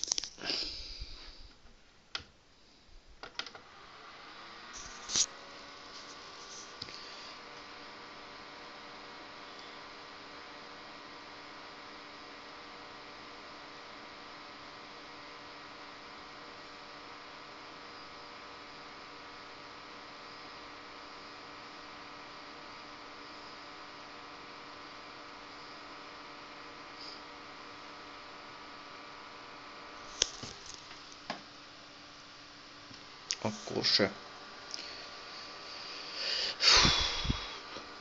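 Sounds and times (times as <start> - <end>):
computer fan hum and hiss: 0.0 - 38.0.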